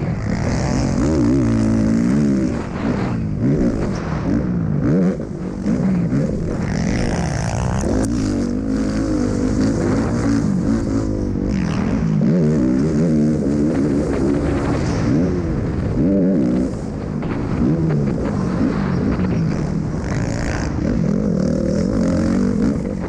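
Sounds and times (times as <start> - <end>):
motocross bike engine revving: 0.0 - 23.0.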